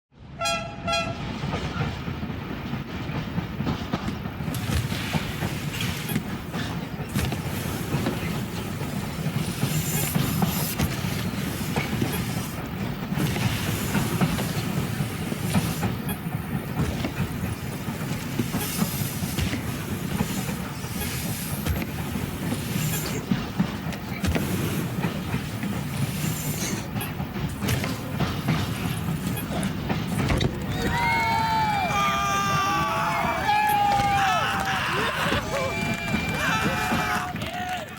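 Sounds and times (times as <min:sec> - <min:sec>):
train wheels rumbling on track: 0:00.2 - 0:37.9
train wheels clicking: 0:00.4 - 0:37.9.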